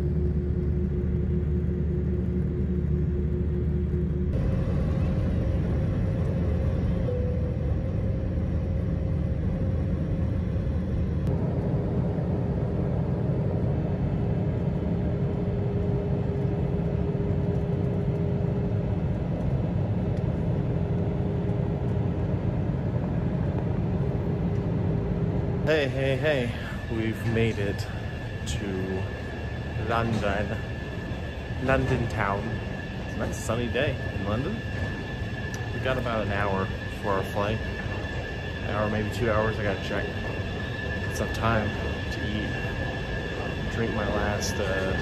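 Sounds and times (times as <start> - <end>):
faint steady hum: 0.0 - 45.0
jet engines rumbling in cabin: 0.0 - 45.0.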